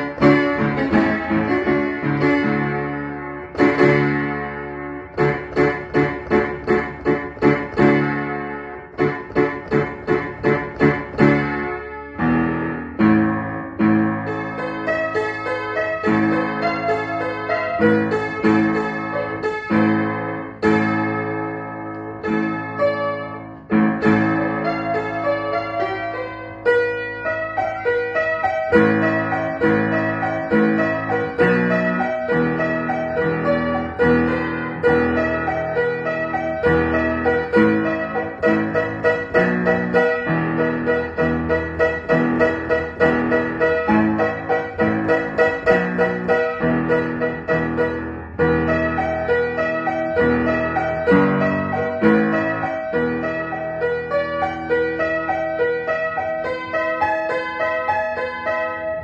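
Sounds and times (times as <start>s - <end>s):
upright piano chords: 0.0s - 59.0s.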